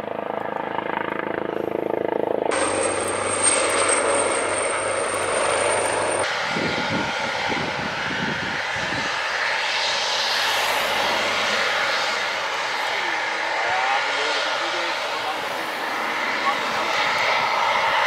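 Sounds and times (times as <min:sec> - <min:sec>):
helicopter rotor blades beating: 0:00.0 - 0:18.0
helicopter turbine whine: 0:00.0 - 0:18.0.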